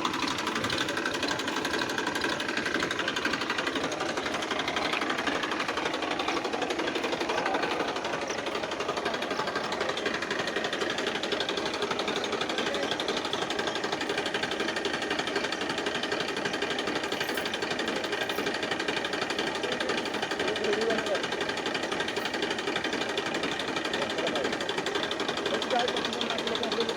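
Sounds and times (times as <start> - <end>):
tractor engine chugging: 0.0 - 26.9.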